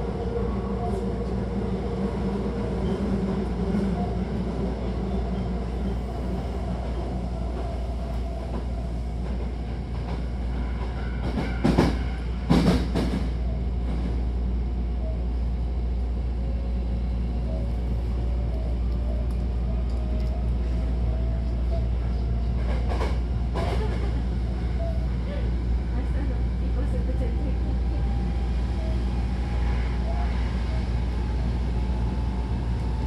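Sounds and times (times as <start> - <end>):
train rumbling inside car: 0.0 - 33.0.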